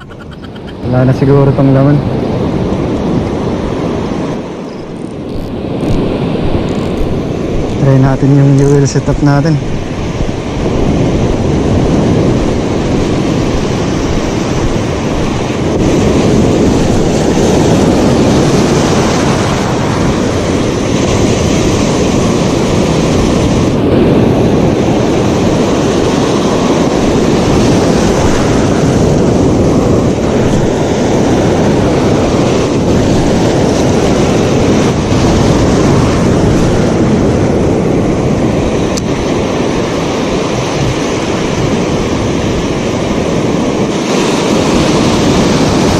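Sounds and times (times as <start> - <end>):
ocean surf breaking: 0.0 - 45.9
wind rumbling on microphone: 0.0 - 45.9.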